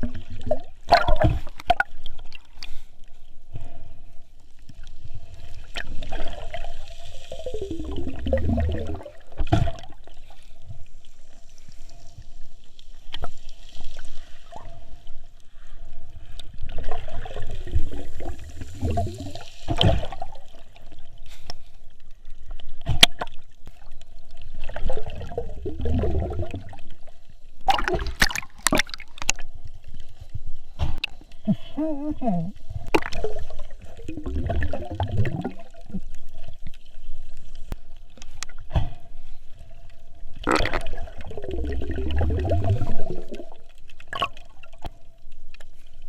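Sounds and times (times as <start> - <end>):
water gurgling and sloshing: 0.0 - 46.0.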